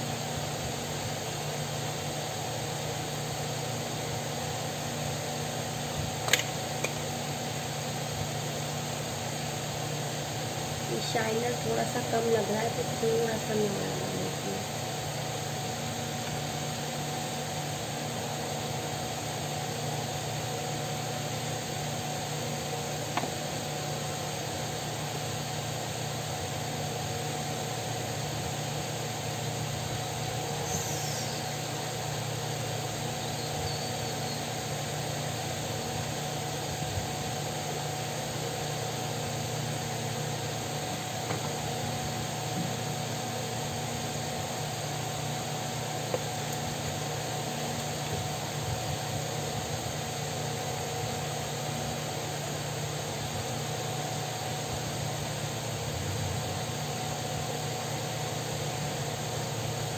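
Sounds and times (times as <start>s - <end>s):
electric fan whirring: 0.0s - 59.9s.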